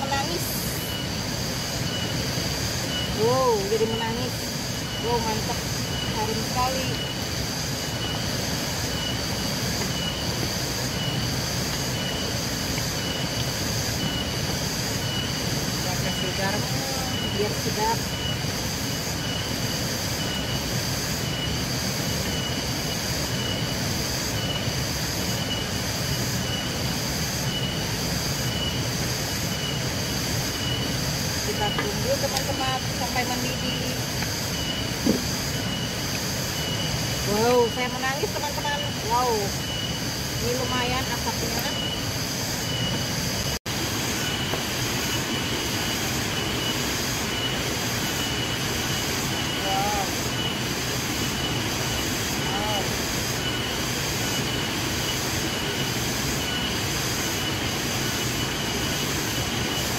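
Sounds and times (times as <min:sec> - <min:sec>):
pulsing insect chorus: 0:00.0 - 0:59.9
wood fire hissing and rumbling: 0:00.0 - 0:59.9.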